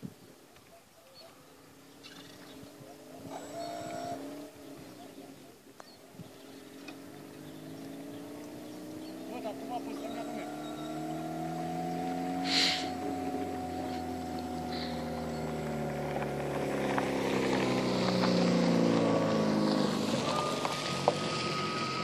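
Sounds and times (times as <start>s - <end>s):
model boat motor whine: 2.0s - 22.0s.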